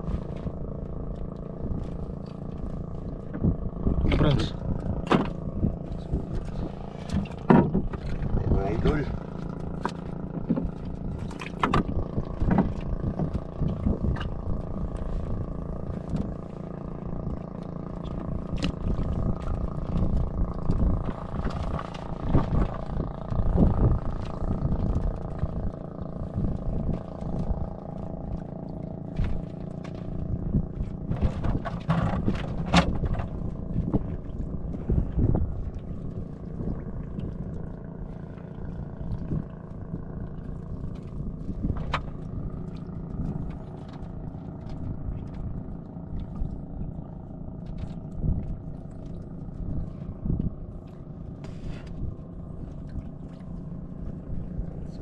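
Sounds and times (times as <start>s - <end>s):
engine droning: 0.0s - 55.0s.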